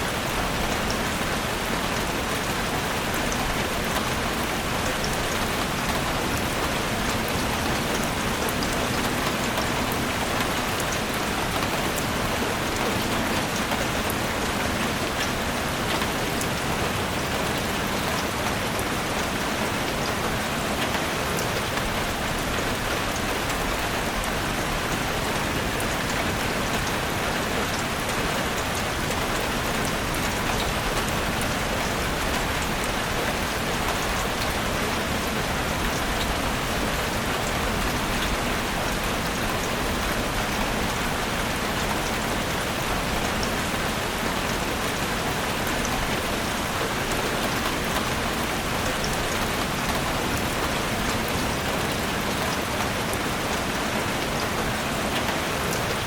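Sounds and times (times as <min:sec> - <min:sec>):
rain falling in a forest: 0:00.0 - 0:56.0.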